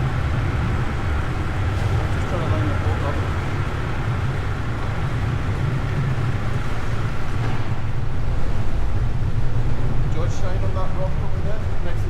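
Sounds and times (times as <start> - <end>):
small boat engine droning: 0.0 - 12.0.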